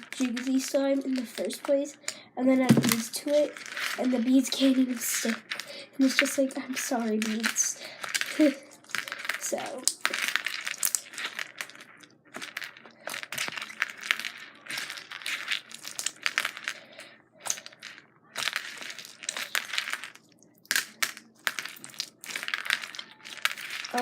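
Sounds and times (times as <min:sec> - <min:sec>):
slime with beads squishing: 0:00.0 - 0:24.0.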